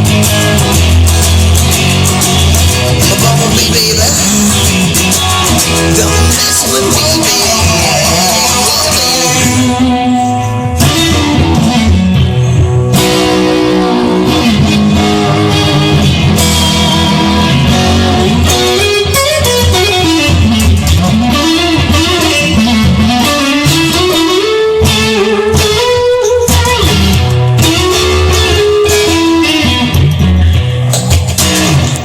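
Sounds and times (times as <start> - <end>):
band playing: 0.0 - 32.0
lead guitar line bending pitch: 0.0 - 32.0
strummed guitar chords: 0.0 - 32.0.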